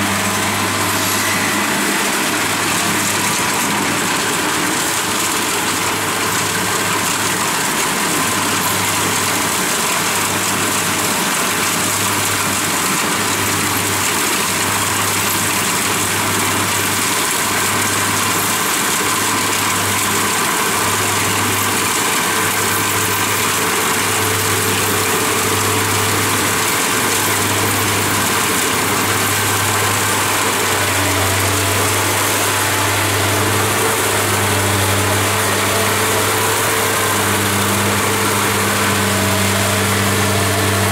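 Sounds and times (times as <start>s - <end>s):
combine harvester diesel engine droning: 0.0s - 40.9s.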